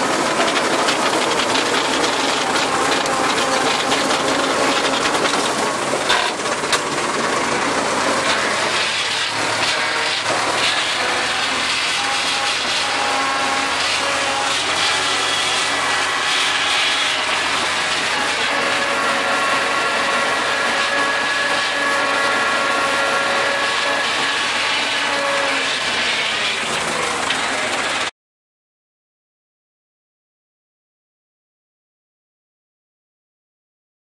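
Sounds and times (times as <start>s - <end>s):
rotary tiller churning soil: 0.0s - 28.1s
tractor engine running: 0.0s - 28.1s.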